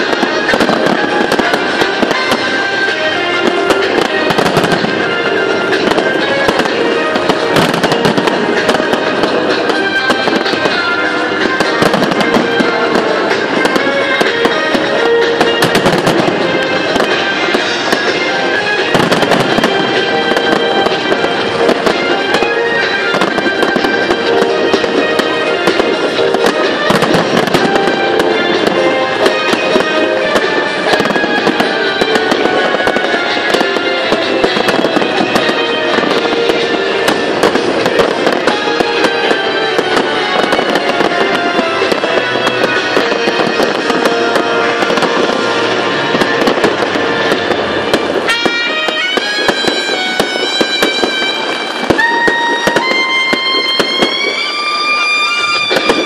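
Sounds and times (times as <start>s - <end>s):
fireworks bursting: 0.0s - 56.0s
music playing: 0.0s - 56.0s.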